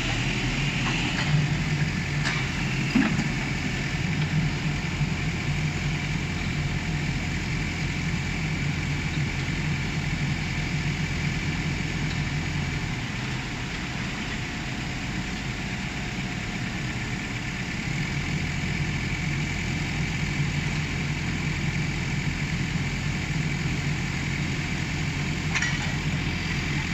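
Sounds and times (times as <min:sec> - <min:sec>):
excavator engine running: 0:00.0 - 0:26.9.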